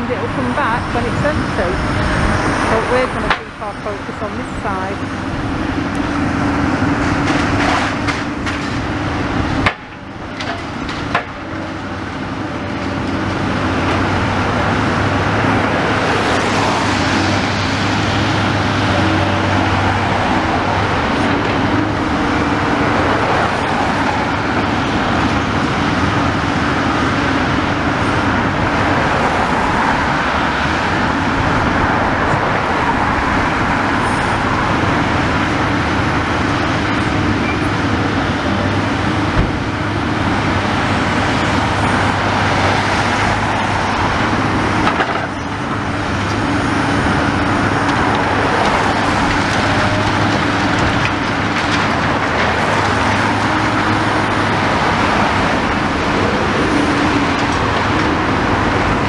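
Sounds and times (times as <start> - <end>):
excavator diesel engine humming: 0.0 - 59.0
road traffic passing: 0.0 - 59.0.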